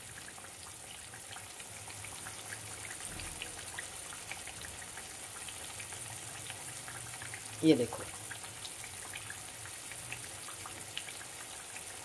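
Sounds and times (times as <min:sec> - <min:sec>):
syrup boiling with small pops: 0:00.0 - 0:12.0.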